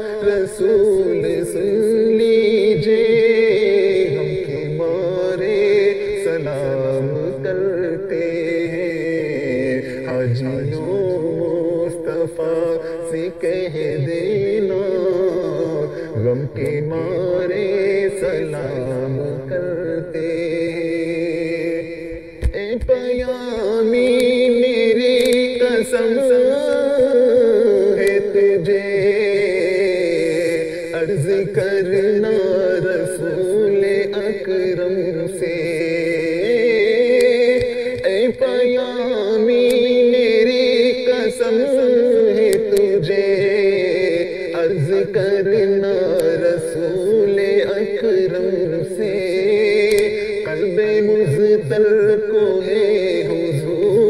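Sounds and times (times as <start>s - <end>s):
person singing devotional chant: 0.0s - 54.0s.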